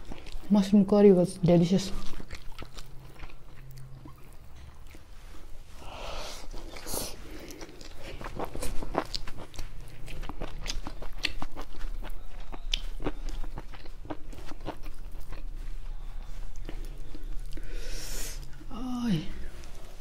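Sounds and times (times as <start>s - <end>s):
person chewing food: 0.0s - 0.5s, 1.9s - 18.7s
low steady hum: 0.0s - 20.0s.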